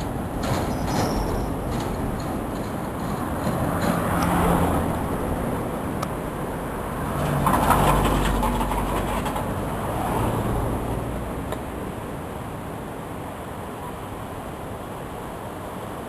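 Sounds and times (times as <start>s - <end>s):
vehicles passing on road: 0.0s - 16.0s.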